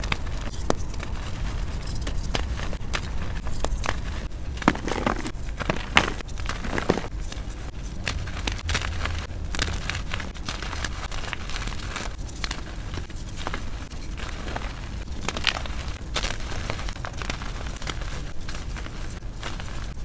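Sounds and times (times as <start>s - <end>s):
hands crushing chalk: 0.0s - 20.0s.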